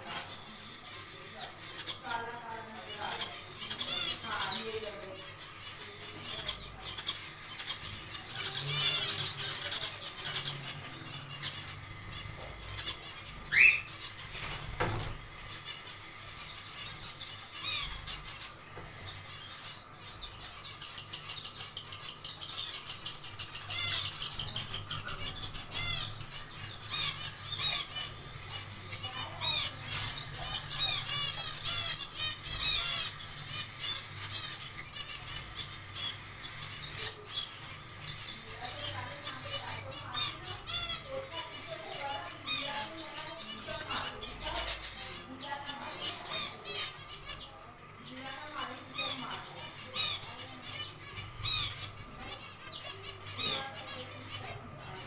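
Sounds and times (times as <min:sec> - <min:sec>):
finches chirping: 0:00.0 - 0:55.0.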